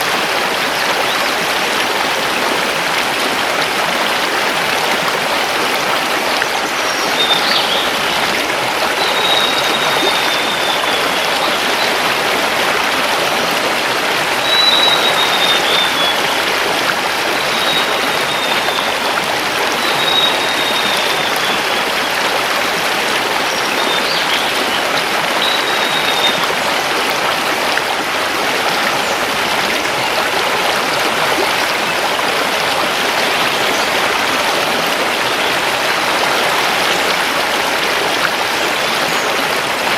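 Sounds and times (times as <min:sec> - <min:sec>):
river rushing over stones: 0:00.0 - 0:39.9.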